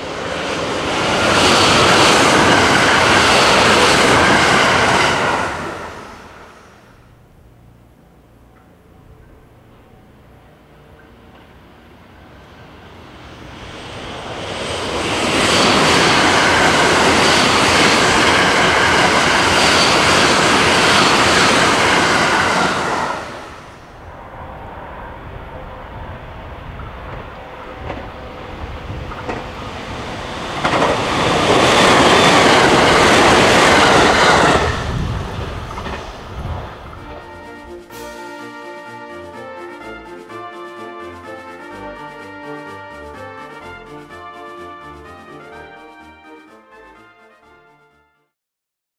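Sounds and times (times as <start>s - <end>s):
electric train passing: 0.0s - 47.0s.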